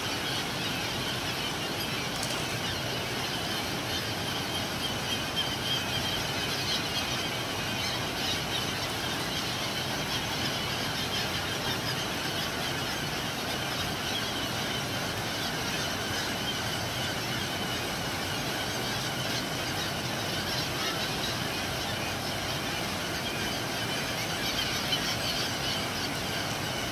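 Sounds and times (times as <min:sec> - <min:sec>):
gulls calling: 0:00.0 - 0:26.9.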